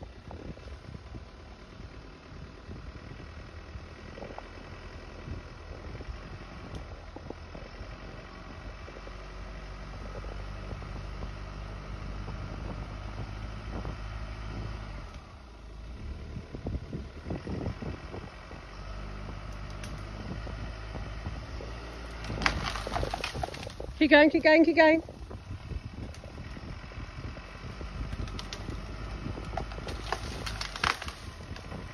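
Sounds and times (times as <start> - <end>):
crackling rush of noise: 0.0 - 31.9
vehicle engine running: 0.0 - 31.9.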